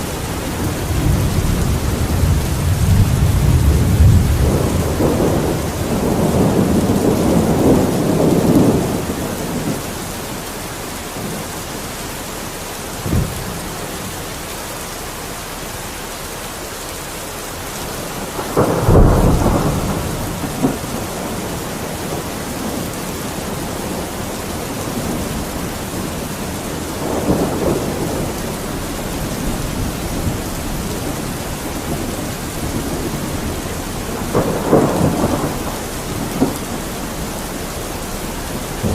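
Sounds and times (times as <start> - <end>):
distant thunder rumbles: 0.0 - 11.8, 12.8 - 14.4, 17.5 - 38.9
steady rain falling: 0.0 - 38.9.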